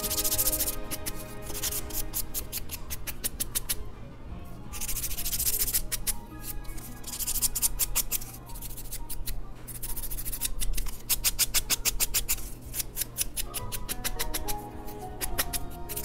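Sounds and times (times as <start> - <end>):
nail file rasping on fingernail: 0.0 - 3.8, 4.8 - 16.0.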